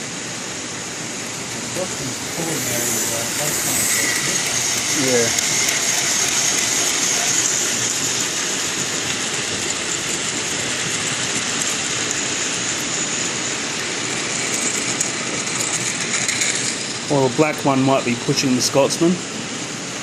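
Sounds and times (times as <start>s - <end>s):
model train whirring on rails: 0.0s - 20.0s.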